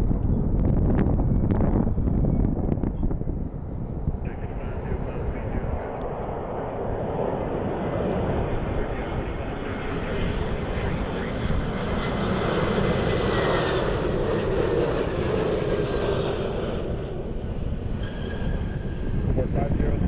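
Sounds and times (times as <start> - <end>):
jet aircraft engines passing: 0.0 - 20.0.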